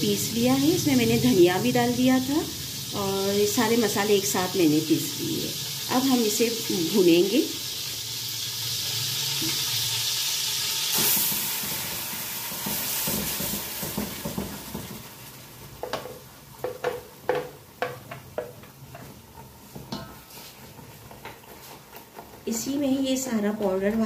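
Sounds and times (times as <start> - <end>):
paste sizzling in hot oil: 0.0 - 23.8.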